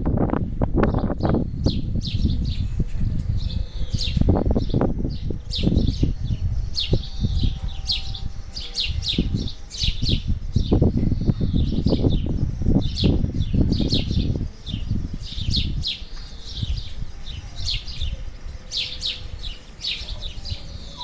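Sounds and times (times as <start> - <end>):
small birds chirping: 0.8 - 21.0.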